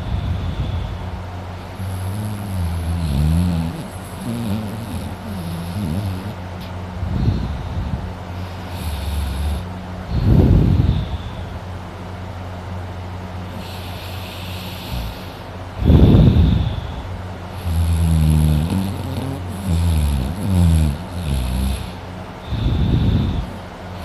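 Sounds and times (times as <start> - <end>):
steady low hum: 0.0 - 24.0
wavering low droning: 0.0 - 24.0
man snoring loudly: 1.6 - 6.5, 7.2 - 11.3, 13.5 - 24.0.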